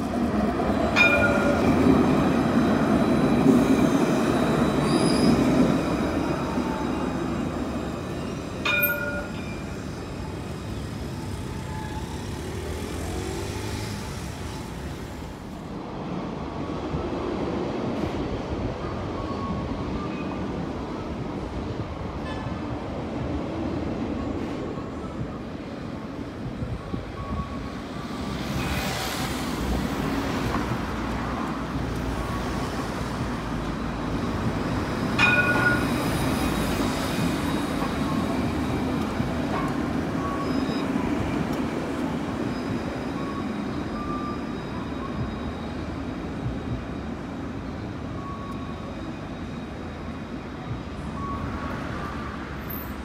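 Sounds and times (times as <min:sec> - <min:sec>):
city road traffic: 0:00.0 - 0:53.0
tram rolling on tracks: 0:00.0 - 0:53.0.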